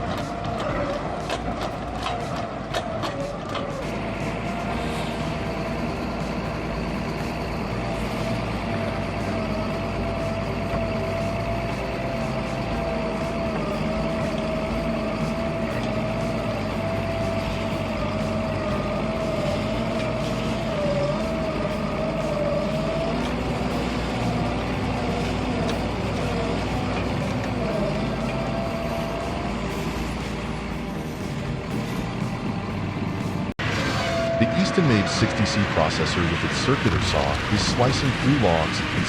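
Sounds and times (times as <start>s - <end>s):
diesel engine running: 0.0s - 39.0s
steady whine: 0.0s - 39.0s.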